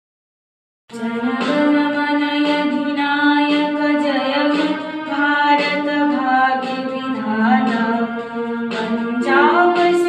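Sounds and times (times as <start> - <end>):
electronic keyboard notes: 0.9 - 10.0
woman singing: 0.9 - 10.0.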